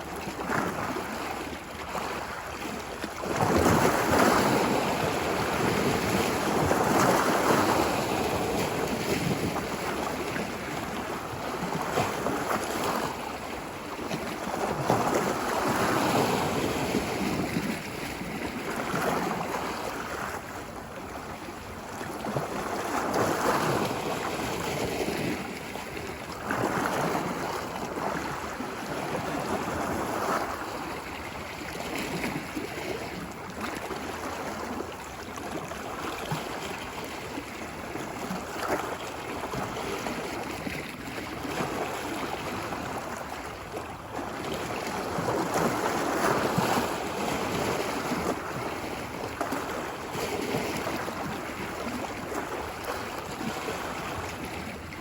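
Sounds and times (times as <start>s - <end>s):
ocean waves washing onto beach: 0.0s - 55.0s.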